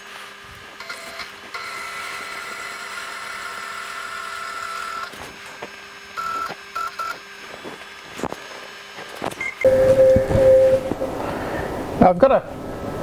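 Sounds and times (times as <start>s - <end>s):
stepper motors whining: 0.7s - 12.0s.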